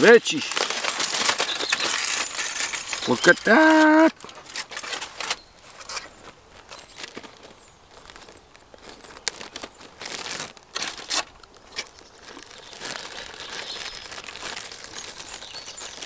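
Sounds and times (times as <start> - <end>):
aluminium foil crinkling: 0.0 - 16.0.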